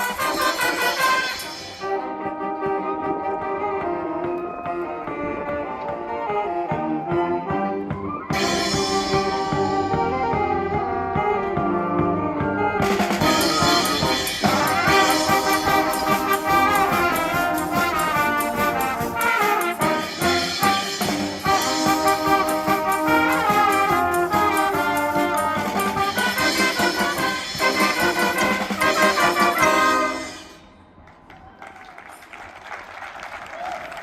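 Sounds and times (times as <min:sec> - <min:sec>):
trumpets and trombones: 0:00.0 - 0:30.7
wind band playing: 0:00.0 - 0:30.9.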